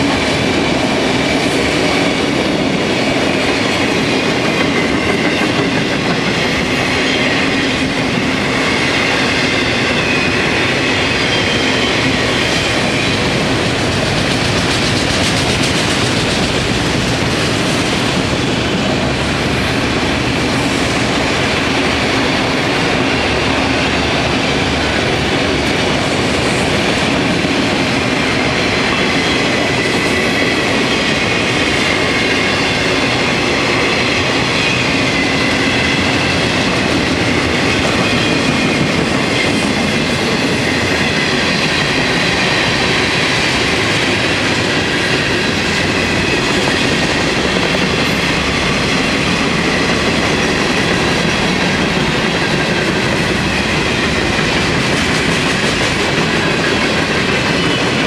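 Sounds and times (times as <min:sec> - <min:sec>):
clickety-clack over rail joints: 0:00.0 - 0:58.0
freight train rumbling past: 0:00.0 - 0:58.0.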